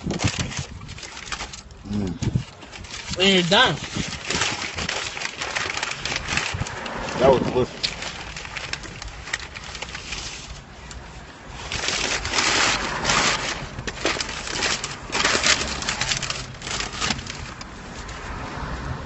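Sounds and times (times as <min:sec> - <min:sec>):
food packaging crinkling: 0:00.0 - 0:17.7.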